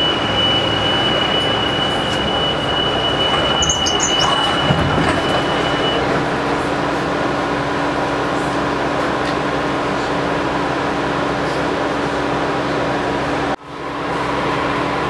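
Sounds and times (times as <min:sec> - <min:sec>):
train ventilation hum and rush: 0:00.0 - 0:15.0.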